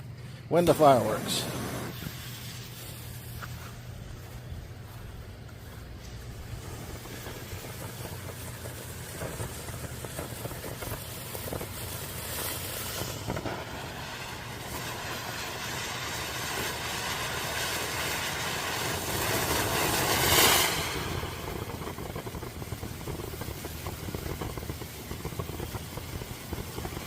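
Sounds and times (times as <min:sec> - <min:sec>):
firework fountain hissing: 0:00.0 - 0:27.0
faint crackles: 0:00.1 - 0:27.0.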